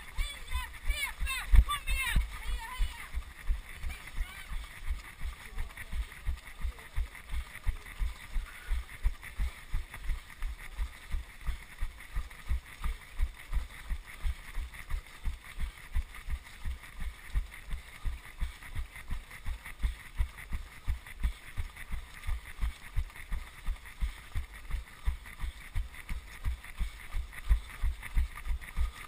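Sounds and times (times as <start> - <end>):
footsteps of runners: 0.0 - 29.0.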